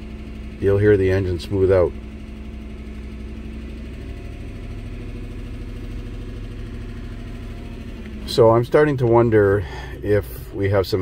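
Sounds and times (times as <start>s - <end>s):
engine idling fast: 0.0s - 11.0s.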